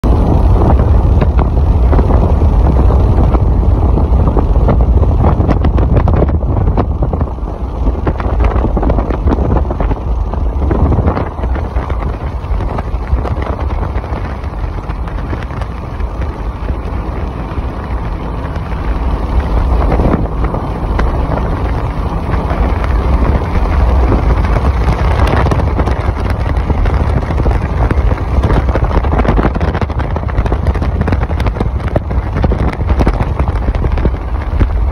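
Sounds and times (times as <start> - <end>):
car driving rumble: 0.0 - 34.9
wind buffeting microphone: 0.0 - 34.9.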